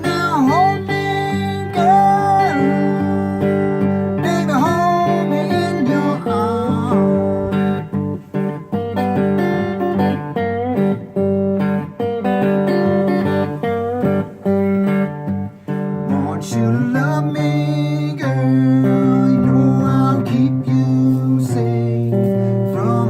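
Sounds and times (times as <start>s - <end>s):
blues guitar riff: 0.0s - 23.0s.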